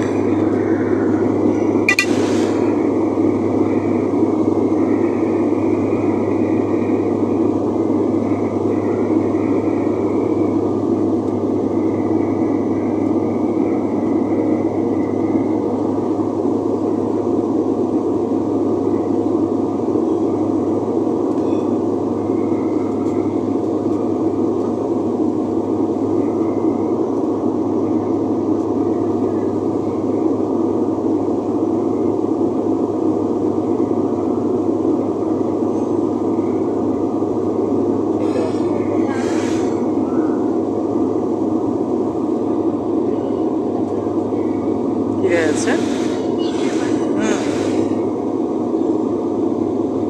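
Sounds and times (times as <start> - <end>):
turboprop engines droning in cabin: 0.0 - 50.0.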